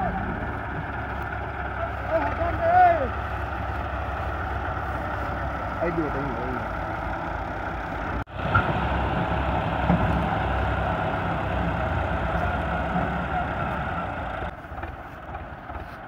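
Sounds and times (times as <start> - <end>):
diesel tractor engines running: 0.0 - 16.0.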